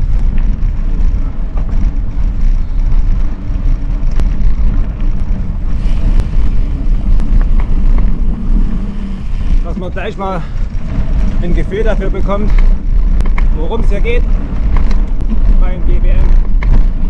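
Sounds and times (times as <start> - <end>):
bike rattles and clicks: 0.0 - 17.0
tyres and wind rumbling: 0.0 - 17.0.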